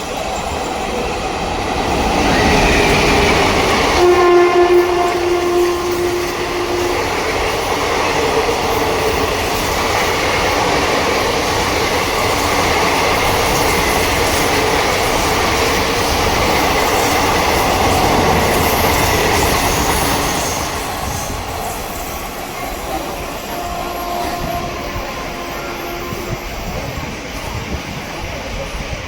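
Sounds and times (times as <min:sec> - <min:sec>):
train wheels rattling on rails: 0:00.0 - 0:29.0.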